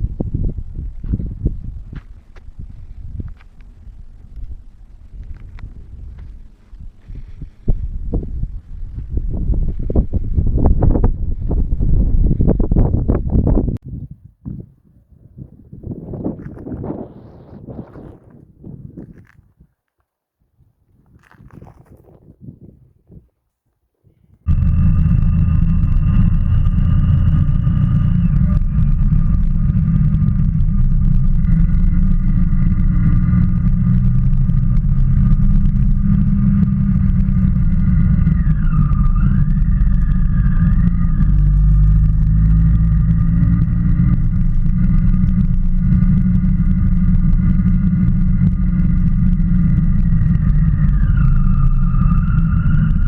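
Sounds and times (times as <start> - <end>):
motorcycle engine with whine: 0.0 - 13.8, 15.9 - 18.4, 24.5 - 53.0
wind rumble on microphone: 0.0 - 19.8, 20.4 - 23.4, 24.0 - 53.0.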